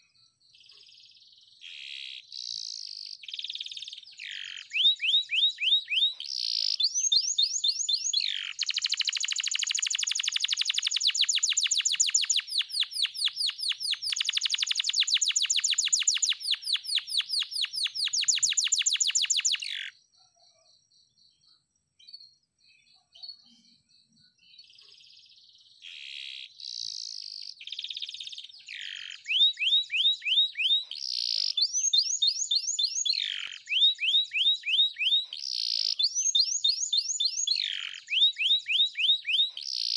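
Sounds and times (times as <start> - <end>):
canary singing: 0.6 - 20.0, 24.5 - 39.9.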